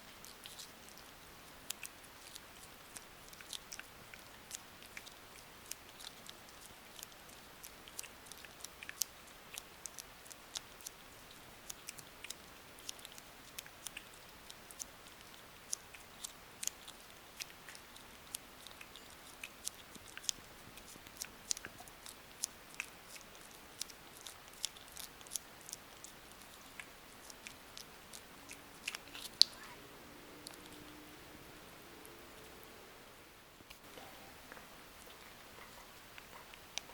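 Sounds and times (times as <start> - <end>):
cats chewing food: 0.0 - 32.8, 33.7 - 36.9.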